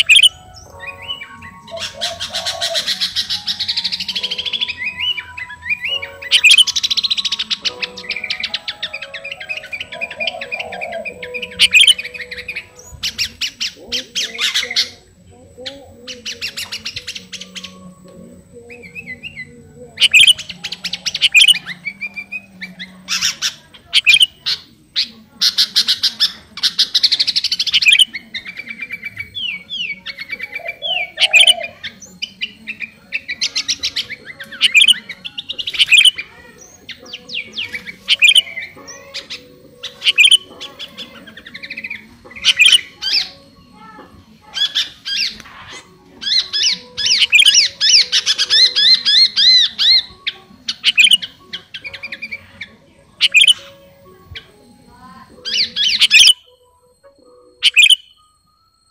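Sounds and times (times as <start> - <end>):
bulbul singing chirps and whistles: 0.0 - 18.1, 18.7 - 43.7, 44.4 - 56.6, 57.5 - 58.9.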